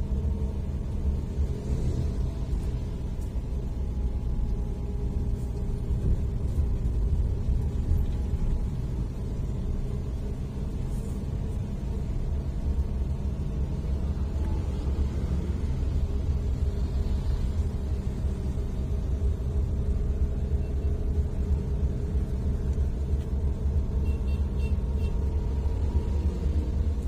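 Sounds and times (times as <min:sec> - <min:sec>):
car driving heard from inside: 0:00.0 - 0:27.0.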